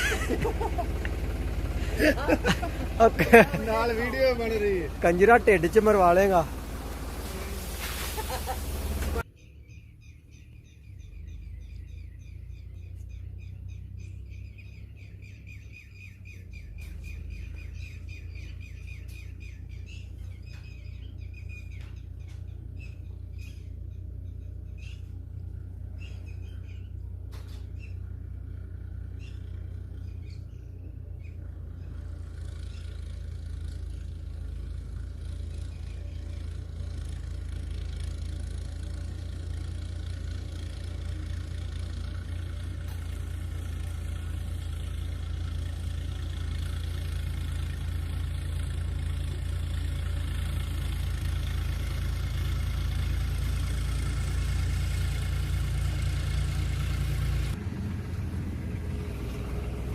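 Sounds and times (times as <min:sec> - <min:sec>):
tractor engine running: 0:00.0 - 0:09.3, 0:10.4 - 0:59.9
birds chirping: 0:00.0 - 0:57.6.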